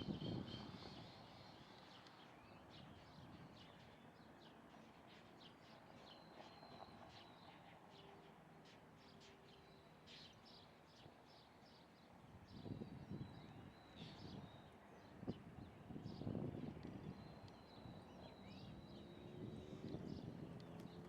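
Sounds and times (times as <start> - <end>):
faint bird chirps and calls: 0.0 - 21.0.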